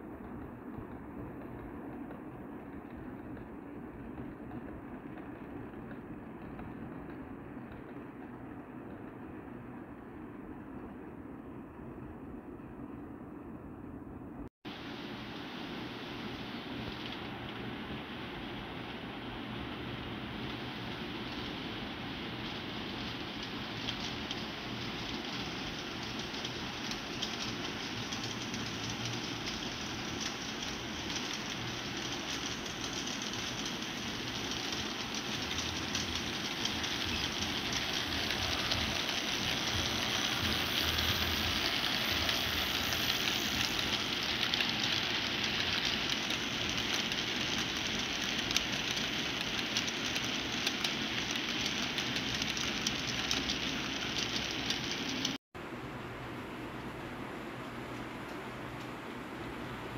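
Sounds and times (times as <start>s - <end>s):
wheels clicking over rails: 0.0s - 10.0s, 16.8s - 55.4s
model train whirring rumble: 0.0s - 12.4s, 15.2s - 55.4s.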